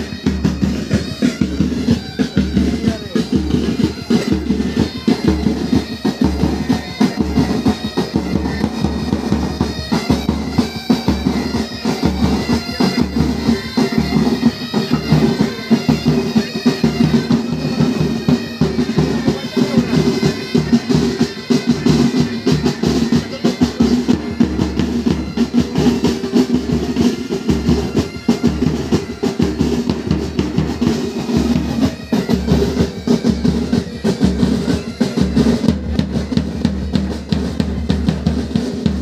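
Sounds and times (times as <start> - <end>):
bagpipes with drones: 0.0 - 39.0
snare drums: 0.0 - 39.0.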